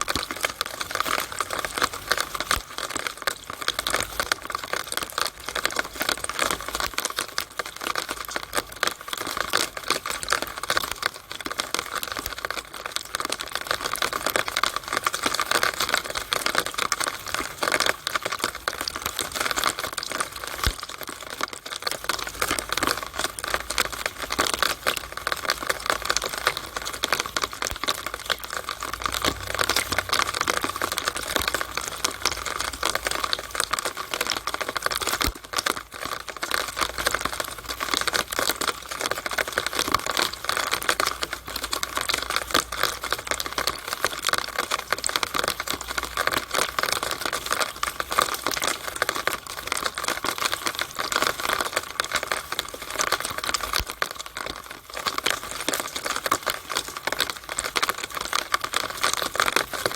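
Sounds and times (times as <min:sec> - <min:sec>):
rainwater dripping in a downspout: 0:00.0 - 0:59.9.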